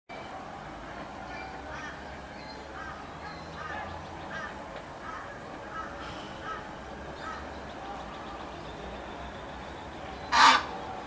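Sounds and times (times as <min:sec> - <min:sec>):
ibis calling: 0:01.3 - 0:11.0.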